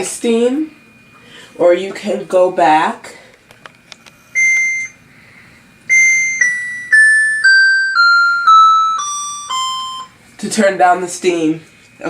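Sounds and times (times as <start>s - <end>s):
humidifier electronic beeps: 0.0s - 12.0s.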